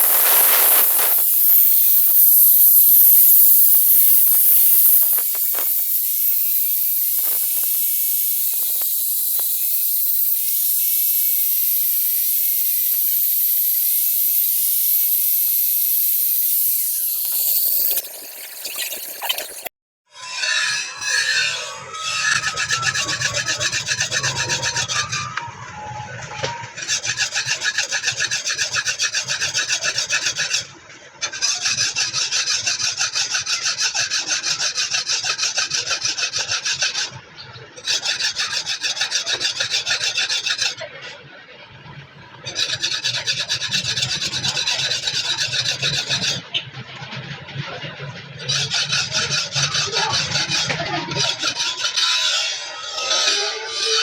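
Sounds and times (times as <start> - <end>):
file rasping on steel: 0.0 - 18.5, 20.2 - 25.4, 26.8 - 37.2, 37.8 - 40.9, 42.4 - 46.4, 48.4 - 54.0.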